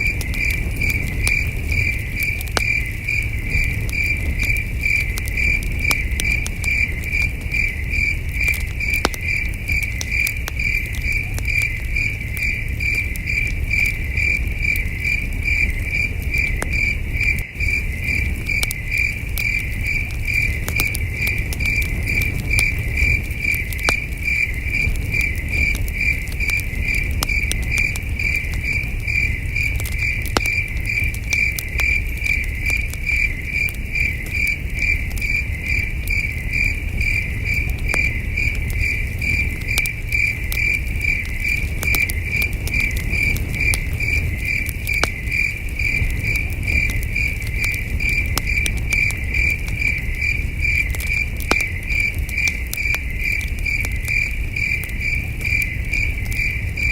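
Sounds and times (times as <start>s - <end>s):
campfire crackling and popping: 0.0s - 56.9s
crickets chirping: 0.0s - 56.9s.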